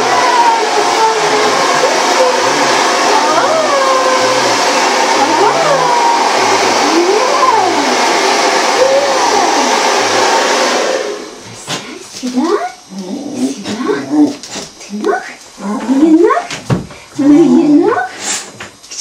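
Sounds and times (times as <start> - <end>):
hair dryer blowing: 0.0 - 15.4.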